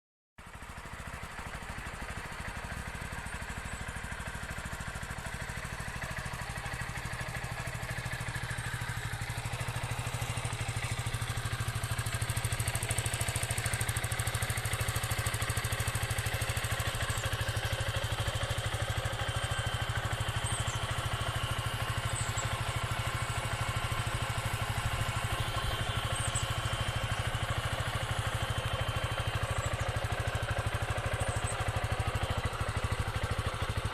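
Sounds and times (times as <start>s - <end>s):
motorcycle engine idling: 0.4s - 33.9s.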